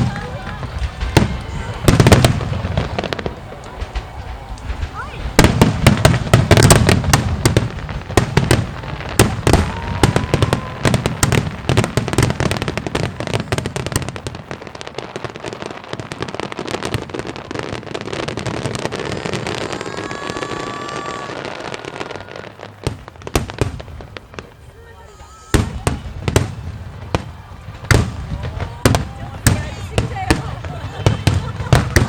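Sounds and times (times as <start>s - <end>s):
fireworks crackle: 0.0s - 32.0s
whistling firework: 0.0s - 32.0s.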